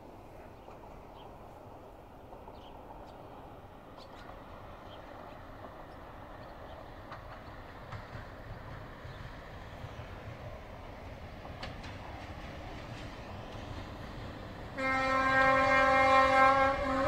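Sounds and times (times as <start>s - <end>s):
distant freight train rumble: 0.0s - 17.0s.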